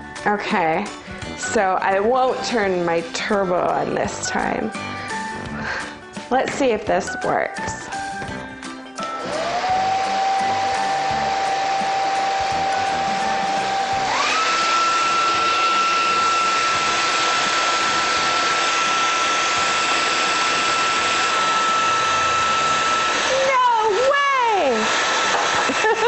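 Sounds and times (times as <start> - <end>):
hair dryer running: 0.9 - 6.8, 7.8 - 26.0.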